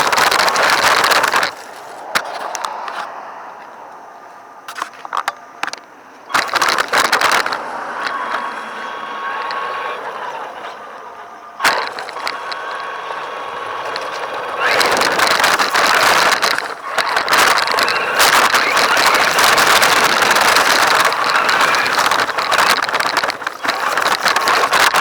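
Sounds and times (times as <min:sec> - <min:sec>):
toy car wheels rolling: 0:00.0 - 0:03.8, 0:04.6 - 0:25.0
sharp clicks: 0:00.0 - 0:04.0, 0:04.7 - 0:25.0
thin motor whine: 0:00.0 - 0:25.0.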